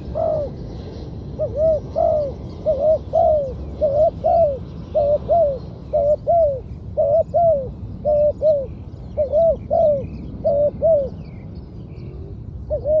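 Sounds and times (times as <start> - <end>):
dove cooing: 0.0 - 0.7, 1.3 - 11.4, 12.0 - 13.0
small birds chirping: 0.0 - 13.0.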